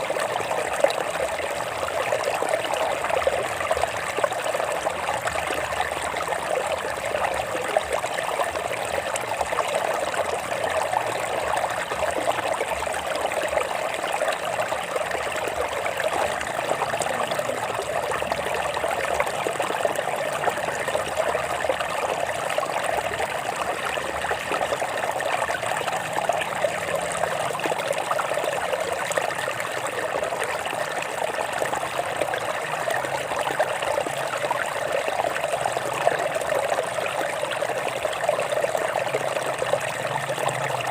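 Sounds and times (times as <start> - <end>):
stream water over rocks: 0.0 - 40.9.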